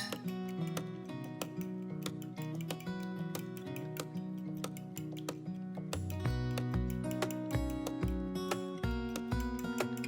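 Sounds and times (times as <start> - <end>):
instrumental music with guitar: 0.0 - 10.0
sharp clicks: 0.0 - 10.0.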